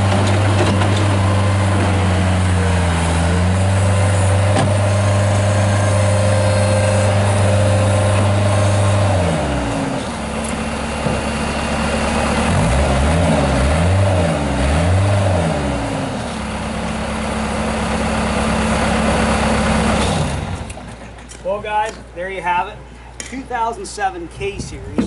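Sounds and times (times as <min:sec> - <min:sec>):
diesel engine revving: 0:00.0 - 0:21.4.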